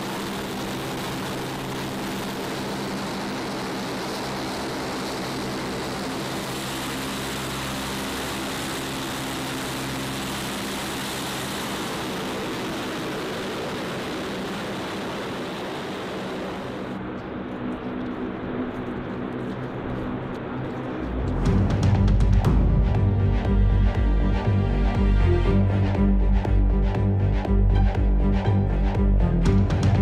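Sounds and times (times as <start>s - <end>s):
turboprop aircraft engines roaring: 0.0s - 30.0s.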